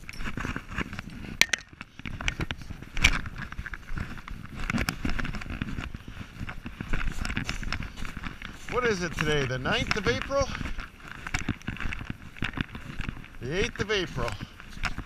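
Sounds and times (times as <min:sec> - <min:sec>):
footsteps crunching on dry ground: 0:00.0 - 0:15.0.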